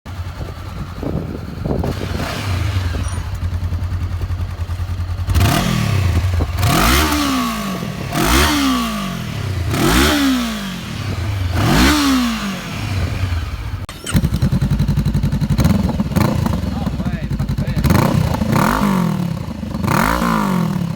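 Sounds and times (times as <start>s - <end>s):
motorcycle engine idling and revving: 0.1s - 20.9s.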